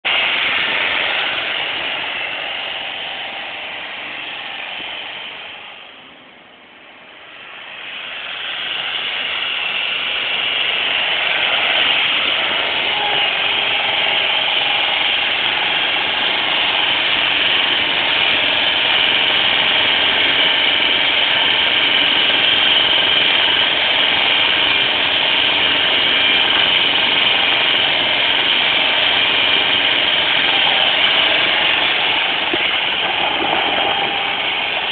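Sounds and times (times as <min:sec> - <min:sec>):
forklift engine running: 0:00.0 - 0:34.9.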